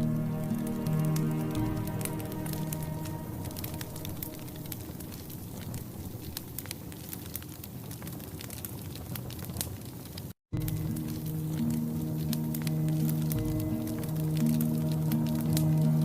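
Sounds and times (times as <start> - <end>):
soft steady hiss: 0.0 - 8.4, 9.5 - 16.0
wood fire crackling and popping: 0.0 - 16.0.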